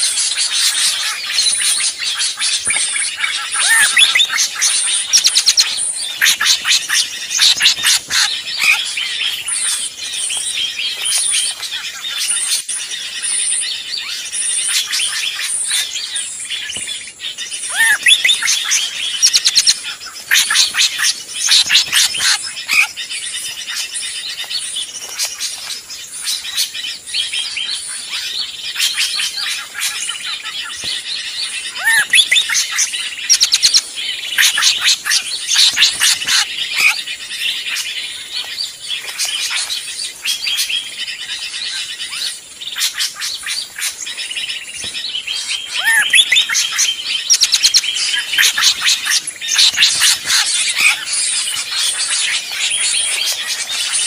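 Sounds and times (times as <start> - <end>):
chorus of bird calls: 0.0 - 54.0.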